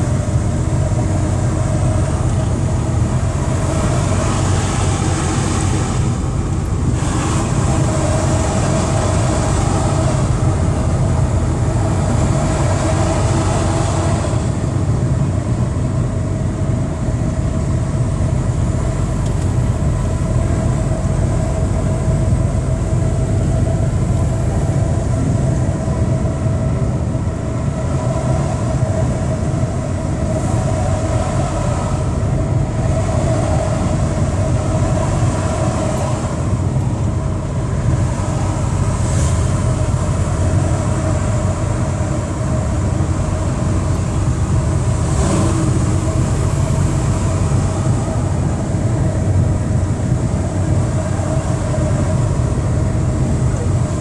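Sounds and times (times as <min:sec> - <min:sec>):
road noise: 0:00.0 - 0:54.0
vehicle engine drone: 0:00.0 - 0:54.0.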